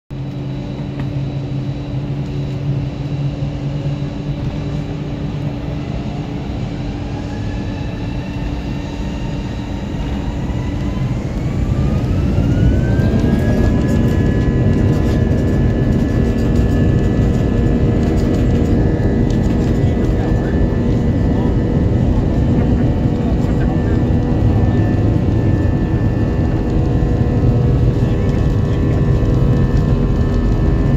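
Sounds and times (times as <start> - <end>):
jet engines rumbling: 0.1 - 30.9
rising engine whine: 0.1 - 30.9.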